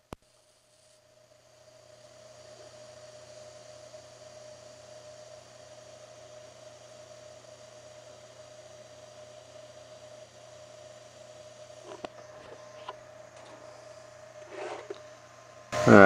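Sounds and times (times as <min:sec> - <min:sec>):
welding arc humming and hissing: 0:00.0 - 0:16.0.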